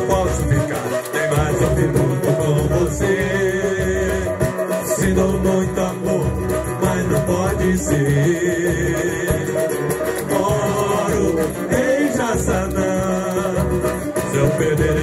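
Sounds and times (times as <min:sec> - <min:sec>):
man singing into a microphone: 0:00.0 - 0:15.0
plucked guitar: 0:00.0 - 0:15.0
shaker percussion: 0:00.0 - 0:15.0.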